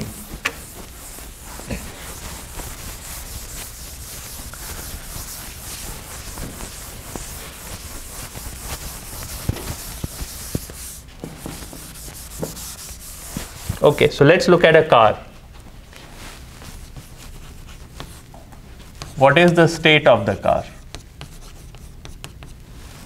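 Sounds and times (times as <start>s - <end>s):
eraser rubbing on blackboard: 0.0s - 14.2s, 16.6s - 19.6s, 20.6s - 22.6s.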